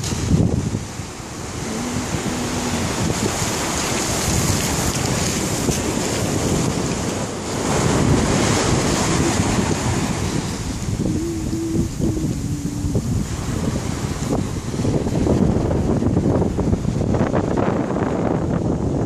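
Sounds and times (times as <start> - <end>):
surf washing up a beach: 0.0 - 19.0
wind buffeting microphone: 0.0 - 19.0.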